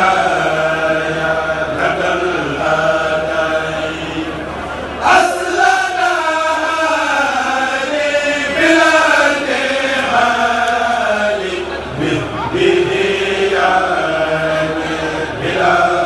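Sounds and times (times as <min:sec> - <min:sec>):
men chanting through microphones: 0:00.0 - 0:16.0.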